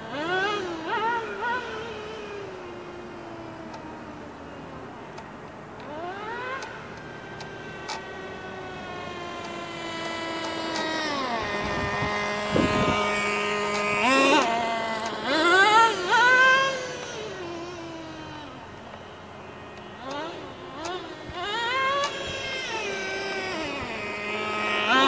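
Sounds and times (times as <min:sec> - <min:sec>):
rc truck engine whining: 0:00.0 - 0:25.0.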